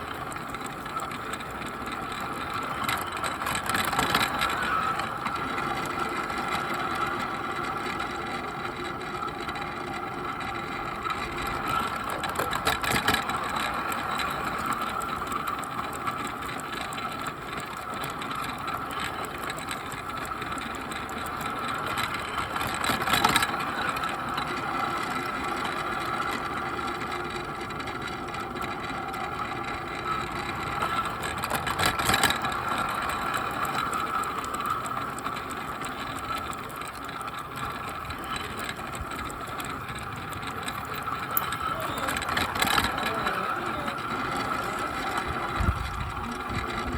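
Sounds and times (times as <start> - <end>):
toy train motor whine: 0.0 - 46.9
wheels clattering over track joints: 0.0 - 46.9.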